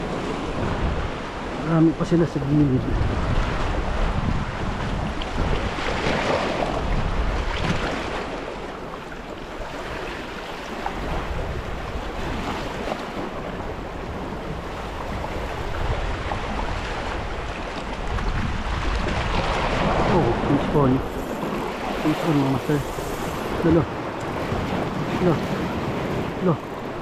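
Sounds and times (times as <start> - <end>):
sea waves washing against rocks: 0.0 - 27.0
wind rumbling on microphone: 0.0 - 27.0.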